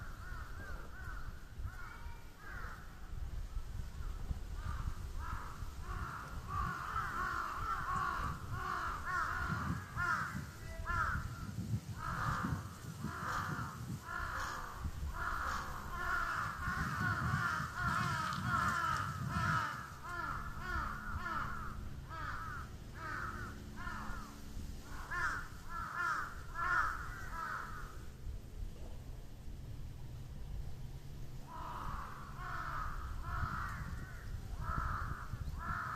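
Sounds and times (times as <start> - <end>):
crows cawing: 0.0 - 3.2, 4.1 - 28.0, 31.4 - 35.9.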